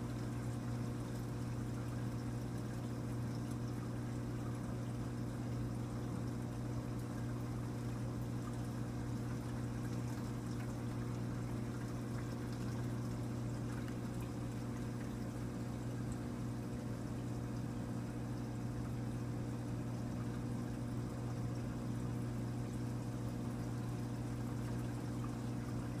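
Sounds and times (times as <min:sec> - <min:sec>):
aquarium pump humming: 0:00.0 - 0:26.0
water pouring and trickling: 0:00.0 - 0:26.0.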